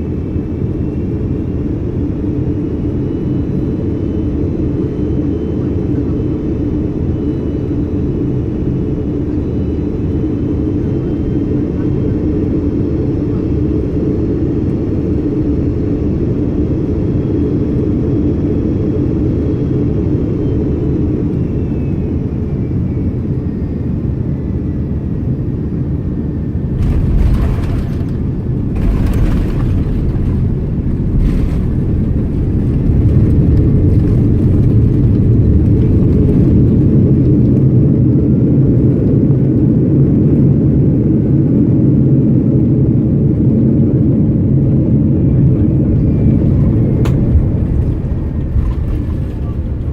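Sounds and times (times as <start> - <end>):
airliner rumbling on runway: 0.0 - 49.9
jet engine drone: 0.0 - 49.9.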